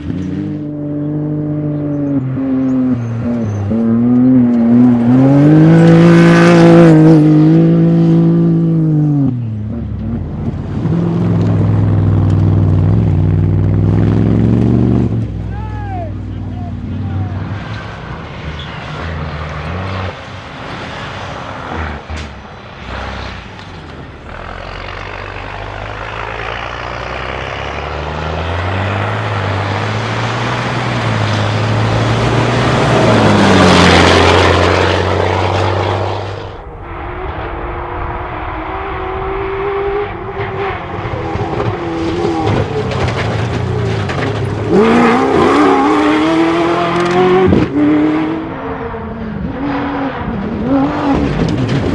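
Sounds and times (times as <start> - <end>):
engine passing at speed: 0.0 - 15.5, 16.8 - 51.9
engine revving: 0.0 - 15.5, 16.2 - 51.9.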